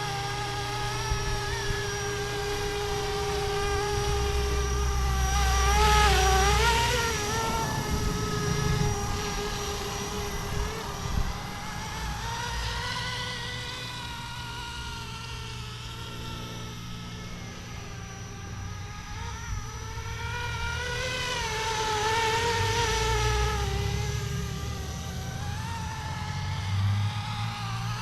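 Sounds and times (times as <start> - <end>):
rc helicopter motor whine: 0.0 - 28.0.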